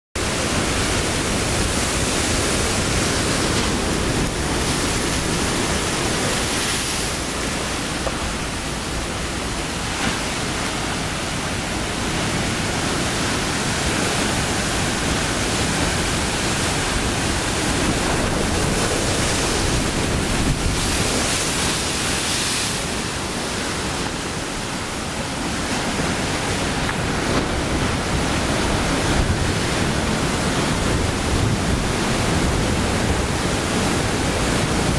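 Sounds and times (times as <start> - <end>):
waves breaking: 0.2 - 34.9.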